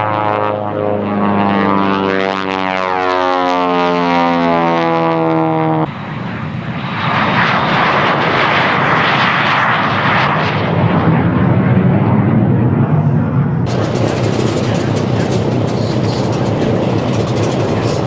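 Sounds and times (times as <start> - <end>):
airplane engine passing: 0.0 - 18.0
rushing aircraft noise: 0.0 - 18.0.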